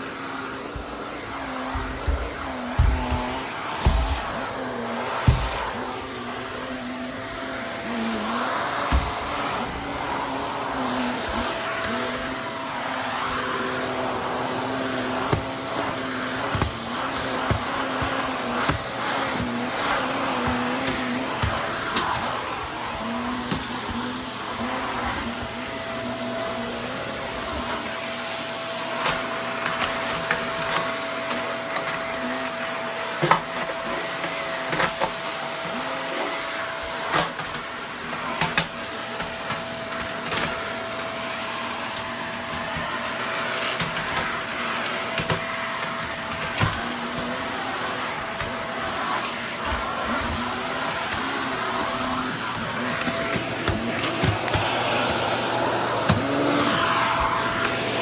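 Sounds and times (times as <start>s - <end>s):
vacuum cleaner whining: 0.0s - 58.0s.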